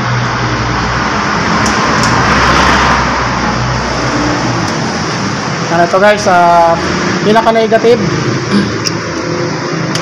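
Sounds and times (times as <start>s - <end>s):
traffic low hum: 0.0s - 10.0s.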